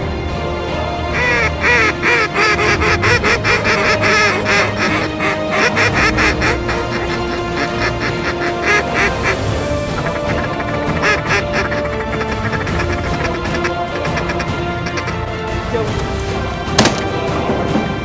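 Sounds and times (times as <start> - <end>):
background music with held tones: 0.0 - 18.0.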